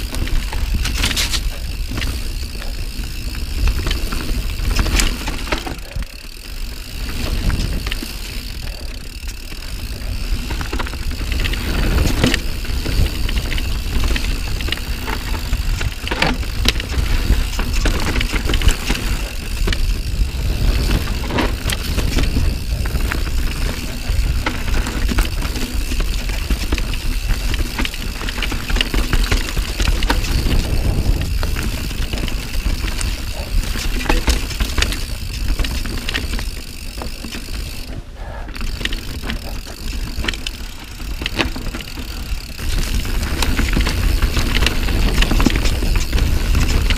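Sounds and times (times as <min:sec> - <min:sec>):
bike tyres rumbling over dirt: 0:00.0 - 0:46.9
chain and bike clicking: 0:00.0 - 0:46.9.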